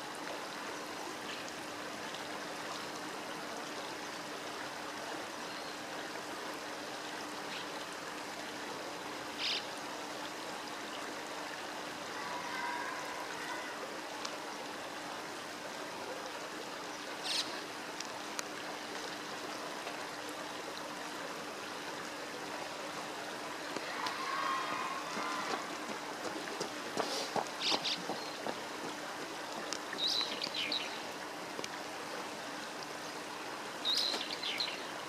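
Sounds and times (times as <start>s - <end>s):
river water running: 0.0s - 35.0s.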